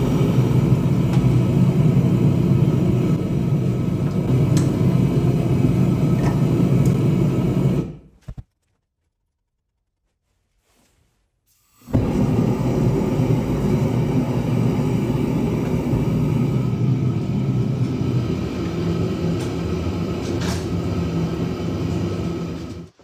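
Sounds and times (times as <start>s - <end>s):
gas forge burner rushing: 0.0s - 8.1s, 11.8s - 23.0s.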